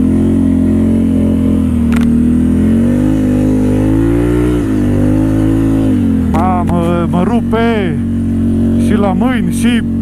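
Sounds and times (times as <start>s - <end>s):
atv engine revving: 0.0s - 10.0s.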